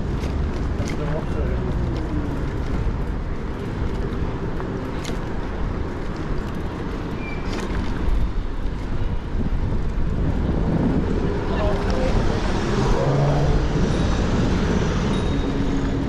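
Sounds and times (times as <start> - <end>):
passing car traffic: 0.0 - 16.0
rumble of wind and road: 0.0 - 16.0.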